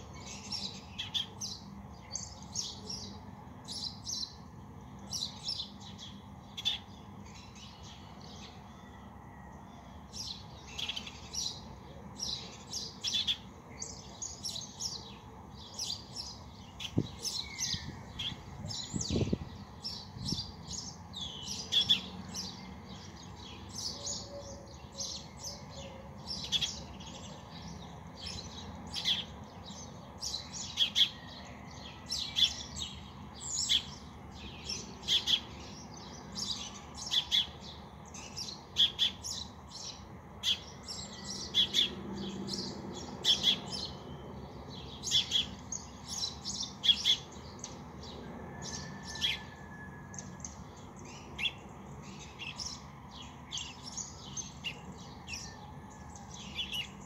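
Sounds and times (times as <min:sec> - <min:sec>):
small birds chirping: 0:00.0 - 0:08.8, 0:09.8 - 0:49.5, 0:50.1 - 0:57.0.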